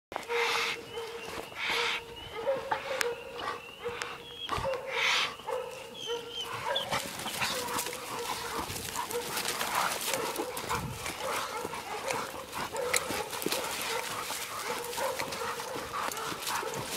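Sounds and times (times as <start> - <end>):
dogs barking: 0.2 - 16.9.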